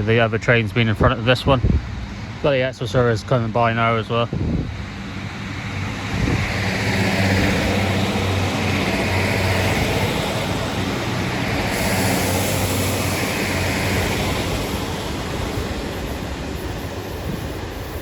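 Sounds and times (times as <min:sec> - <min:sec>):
diesel train engine hum: 0:00.0 - 0:18.0
wheels rushing on rails: 0:00.0 - 0:18.0.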